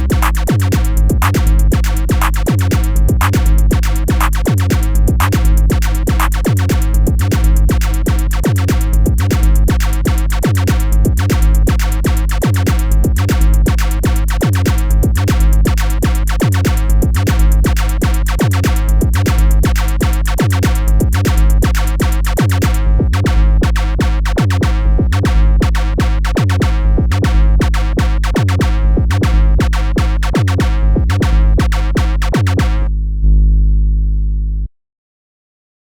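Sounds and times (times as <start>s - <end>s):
drum machine beat: 0.0s - 32.9s
heavy synth bass line: 0.0s - 34.7s.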